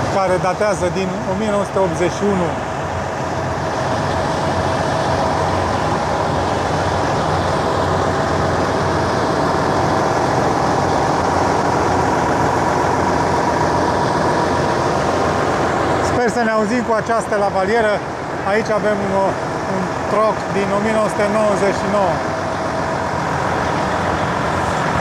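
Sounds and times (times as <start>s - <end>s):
large diesel engine running: 0.0s - 25.0s.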